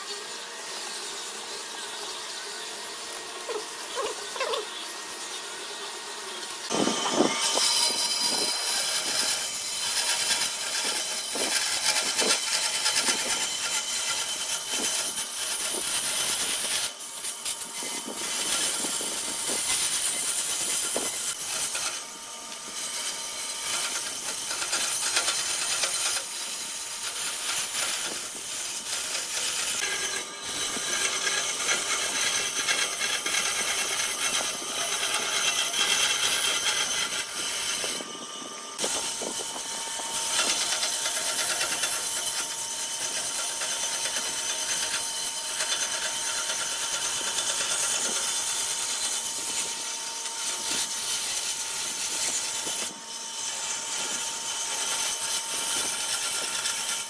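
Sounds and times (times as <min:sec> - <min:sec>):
bandsaw whine: 0:00.0 - 0:57.0
saw blade rasping wood: 0:00.0 - 0:57.0.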